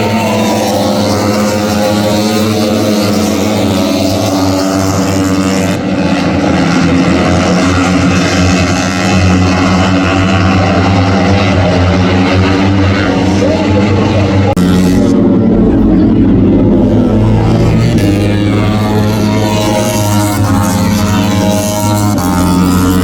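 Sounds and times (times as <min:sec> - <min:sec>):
racing motorcycle engines revving: 0:00.0 - 0:23.0.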